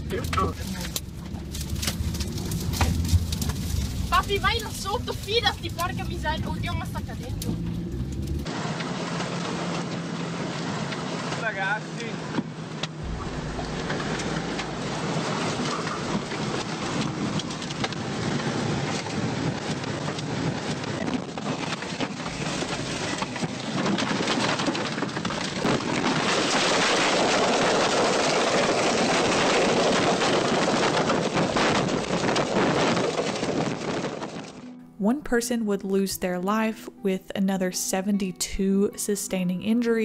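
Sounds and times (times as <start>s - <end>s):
driving rain: 0.0s - 34.7s
tornado winds: 0.0s - 34.7s.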